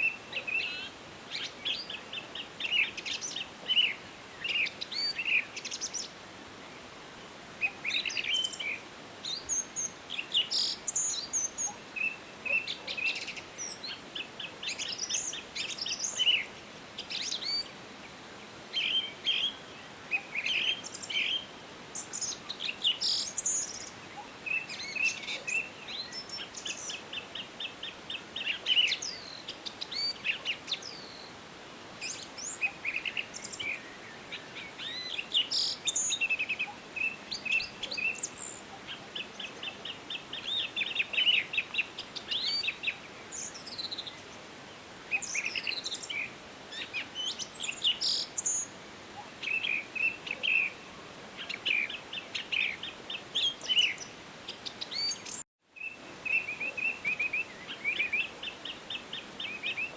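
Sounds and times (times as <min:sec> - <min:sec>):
faint steady hiss: 0:00.0 - 0:59.9
songbirds singing and chirping: 0:00.0 - 0:59.9.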